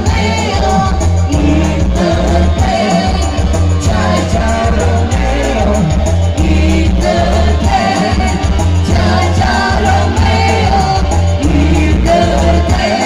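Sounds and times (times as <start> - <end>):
live band music through pa: 0.0 - 13.0
singers singing together: 0.0 - 13.0.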